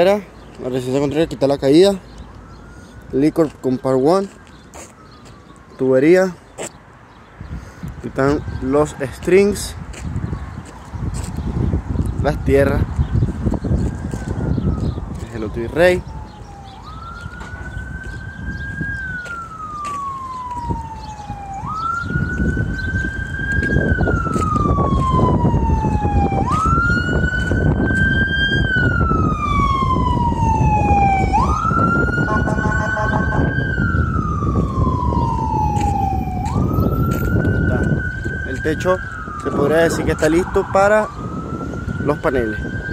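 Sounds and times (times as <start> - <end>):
siren wailing: 0.8 - 6.5, 8.2 - 9.7, 12.1 - 42.9.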